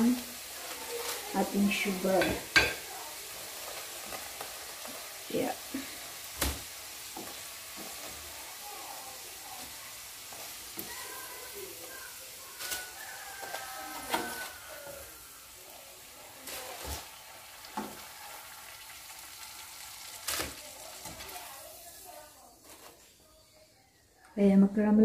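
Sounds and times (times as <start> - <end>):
dough sizzling in hot oil: 0.0 - 23.2.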